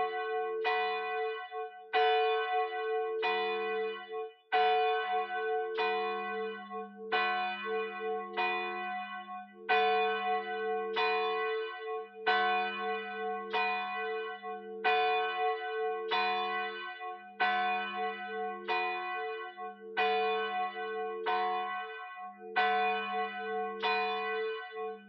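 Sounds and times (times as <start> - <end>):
church bells ringing: 0.0 - 25.0.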